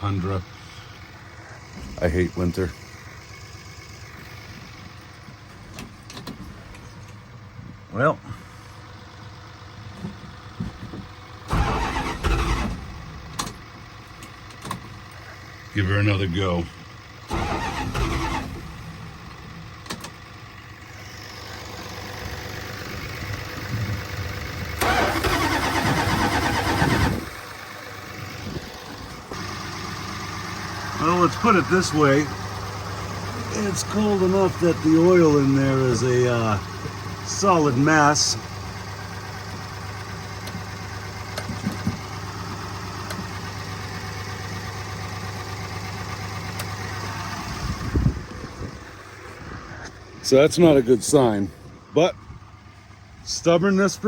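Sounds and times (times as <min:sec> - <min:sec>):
diesel engine cranking: 0:00.0 - 0:54.0.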